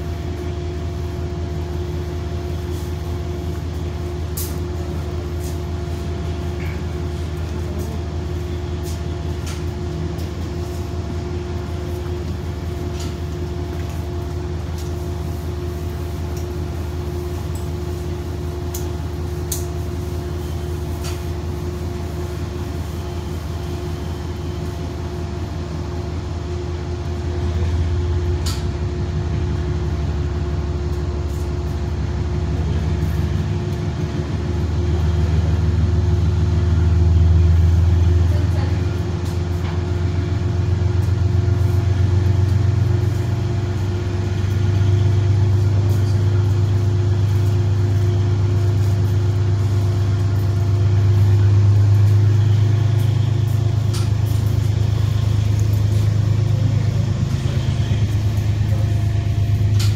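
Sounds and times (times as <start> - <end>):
locomotive diesel engine drone: 0.0 - 59.9.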